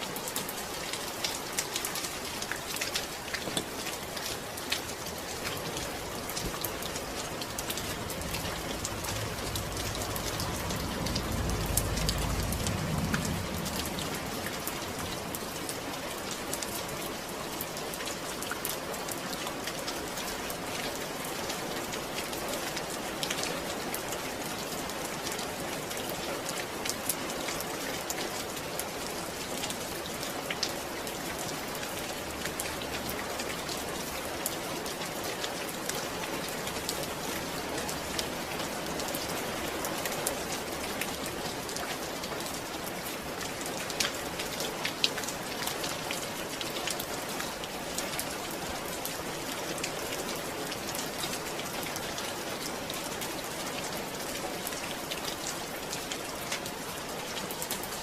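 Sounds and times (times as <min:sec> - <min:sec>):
raindrops ticking: 0:00.0 - 0:51.2
steady rainfall: 0:00.0 - 0:58.0.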